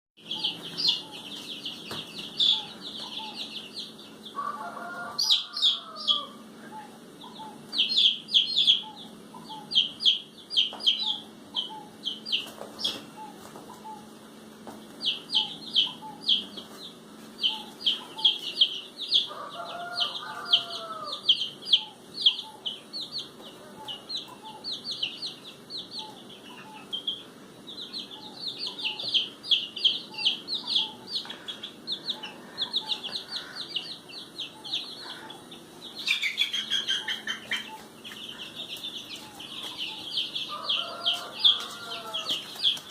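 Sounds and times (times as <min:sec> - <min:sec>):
ducks peeping: 0:00.2 - 0:42.9.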